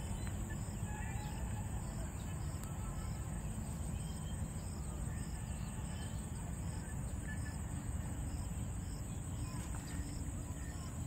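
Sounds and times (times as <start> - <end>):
constant high buzz: 0.0 - 11.0.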